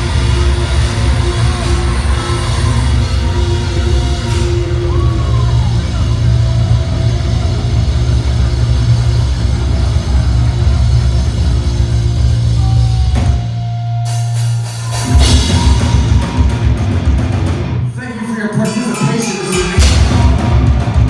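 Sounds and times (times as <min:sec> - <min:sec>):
heavy metal band playing live: 0:00.0 - 0:21.0.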